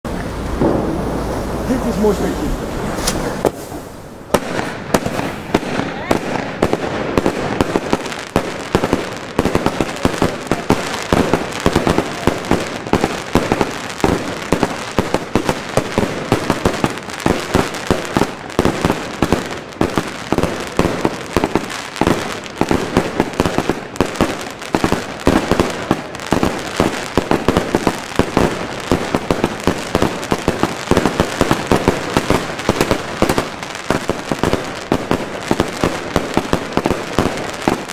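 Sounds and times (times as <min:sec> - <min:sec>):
fireworks rapid shots and bursts: 0:00.5 - 0:37.9.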